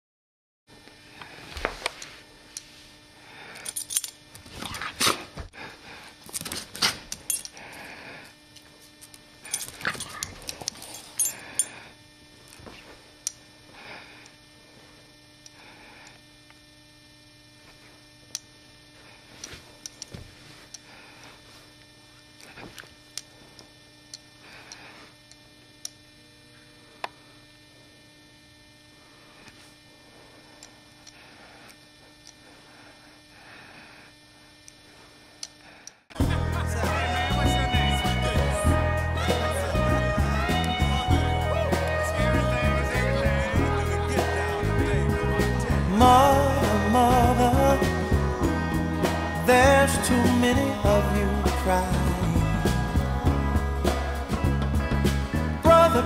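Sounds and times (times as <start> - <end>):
steady electrical hum: 0.7 - 56.0.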